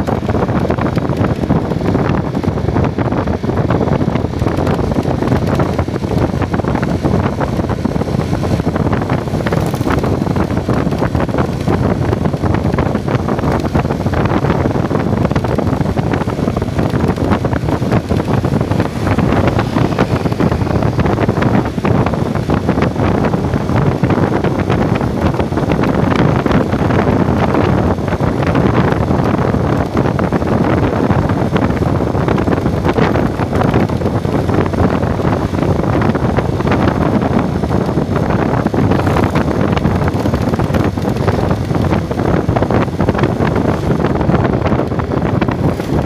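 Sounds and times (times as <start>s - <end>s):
vehicle running: 0.0s - 46.0s
wind buffeting the microphone: 0.0s - 46.0s.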